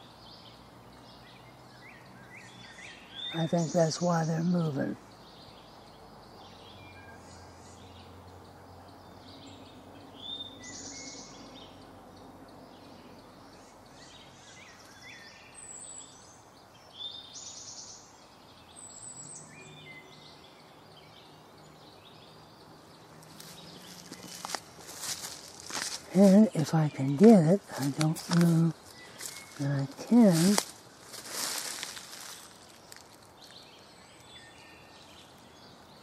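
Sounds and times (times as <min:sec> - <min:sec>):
songbirds chirping and whistling: 0:00.0 - 0:36.0.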